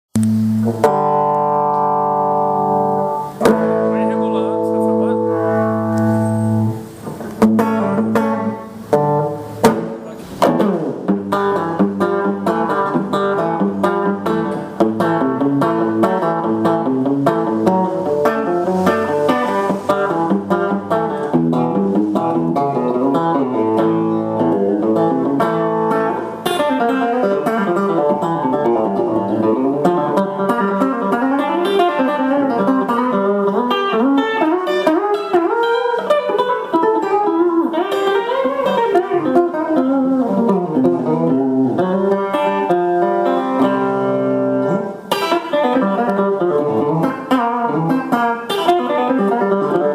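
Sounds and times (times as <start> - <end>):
electric guitar notes: 0.1 - 49.9.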